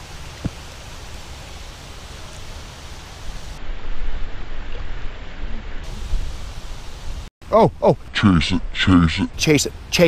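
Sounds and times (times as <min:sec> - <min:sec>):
wind rumbling on microphone: 0:00.0 - 0:08.8.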